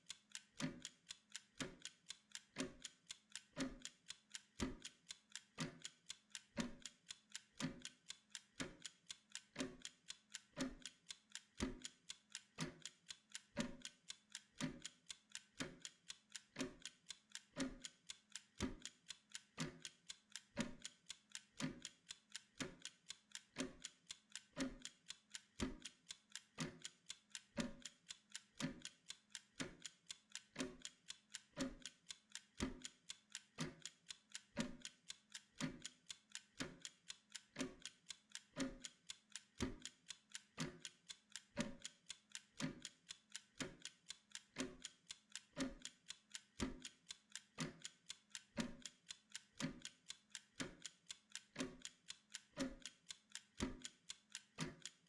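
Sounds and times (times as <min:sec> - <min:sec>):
kitchen timer ticking: 0:00.0 - 0:55.0.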